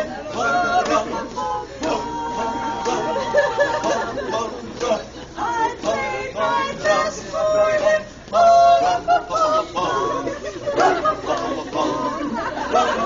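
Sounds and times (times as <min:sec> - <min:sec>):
carolers singing unaccompanied: 0:00.0 - 0:13.0.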